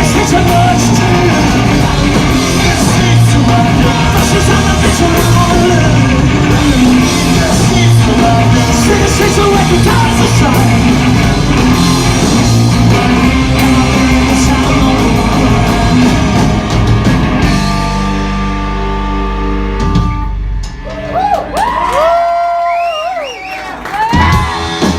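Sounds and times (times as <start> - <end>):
punk rock band playing: 0.0 - 21.8, 23.8 - 24.9.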